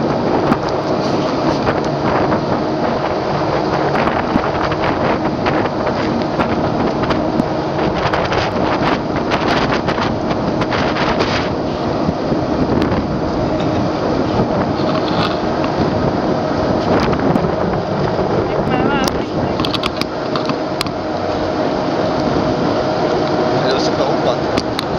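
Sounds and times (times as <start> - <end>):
water lapping against boat hull: 0.0 - 24.9
wind buffeting microphone: 0.0 - 24.9.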